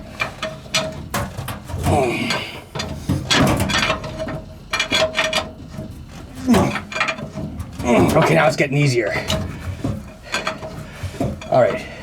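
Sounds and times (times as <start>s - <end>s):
steel bars clanking and creaking: 0.0s - 12.0s.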